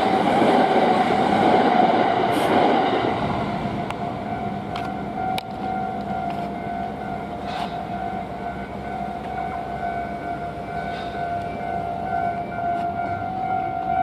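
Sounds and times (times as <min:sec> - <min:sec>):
passing train rumble: 0:00.0 - 0:14.0.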